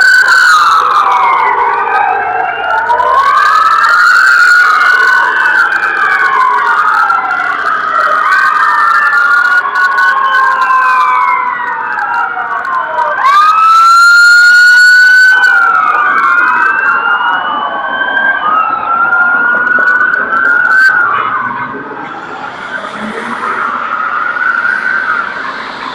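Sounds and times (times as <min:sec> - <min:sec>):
fire truck sirens wailing: 0:00.0 - 0:25.9.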